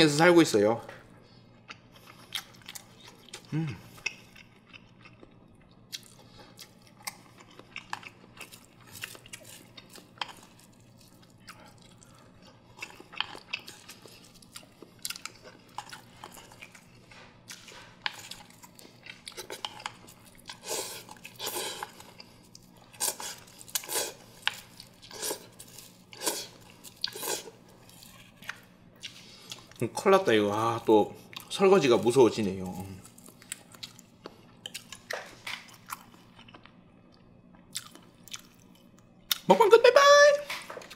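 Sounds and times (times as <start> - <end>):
wet chewing and mouth sounds: 1.6 - 29.8, 31.2 - 39.5.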